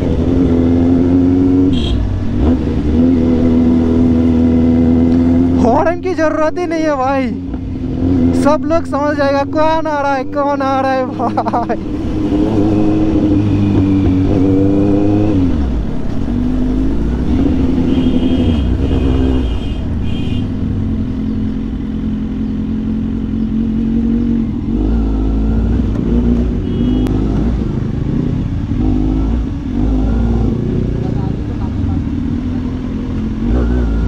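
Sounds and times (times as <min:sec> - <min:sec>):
motorcycle engine revving: 0:00.0 - 0:06.1, 0:06.8 - 0:34.0.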